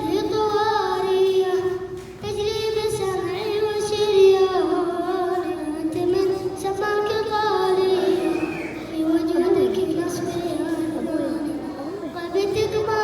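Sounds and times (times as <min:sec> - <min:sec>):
boy singing: 0:00.0 - 0:13.0.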